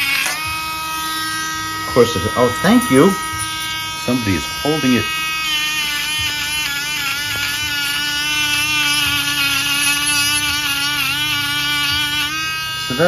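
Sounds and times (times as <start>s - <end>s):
rotary tool with wire brush whining: 0.0s - 13.0s.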